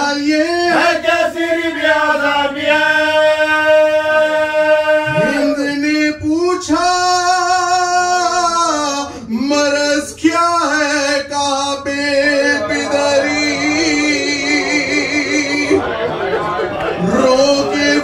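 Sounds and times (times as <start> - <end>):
man singing lament: 0.0 - 15.8, 17.0 - 18.0.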